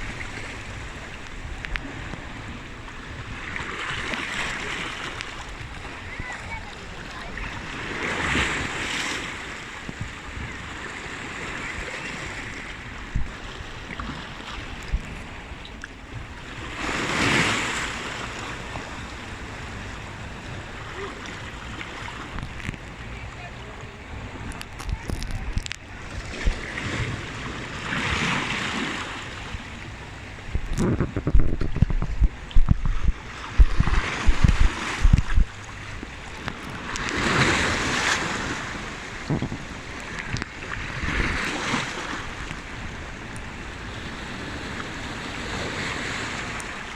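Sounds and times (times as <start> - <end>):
sea waves washing: 0.0 - 46.9
wave breaking: 0.0 - 46.9
wind buffeting microphone: 0.0 - 46.9.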